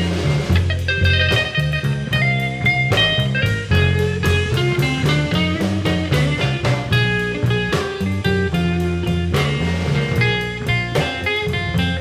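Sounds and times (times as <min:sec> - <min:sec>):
bass and drums: 0:00.0 - 0:12.0
electric guitar lead line: 0:00.0 - 0:12.0.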